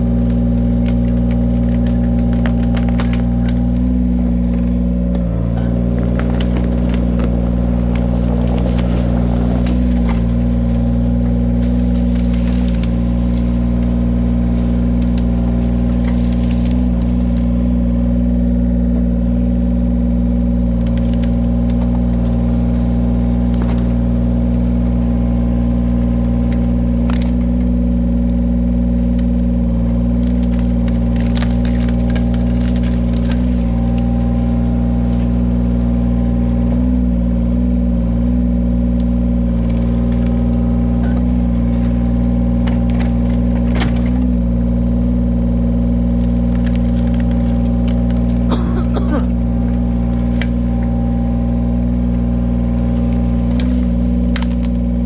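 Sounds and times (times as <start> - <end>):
wood cracking as it splits: 0.0 - 55.0
wood splitter engine running: 0.0 - 55.0.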